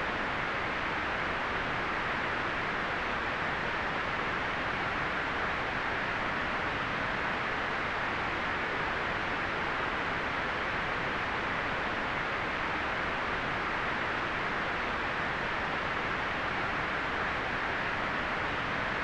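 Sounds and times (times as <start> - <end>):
steady white noise hiss: 0.0 - 19.0.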